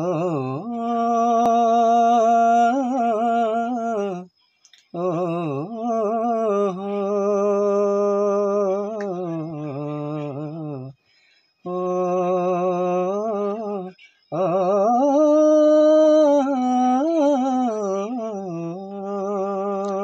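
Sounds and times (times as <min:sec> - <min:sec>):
man singing wordless notes: 0:00.0 - 0:04.3, 0:05.0 - 0:10.9, 0:11.7 - 0:20.0.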